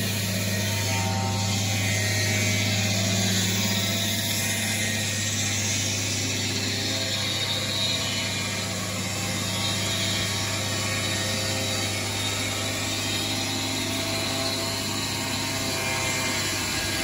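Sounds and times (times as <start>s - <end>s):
saw blade cutting wood: 0.0s - 17.0s
sawmill engine hum: 0.0s - 17.0s.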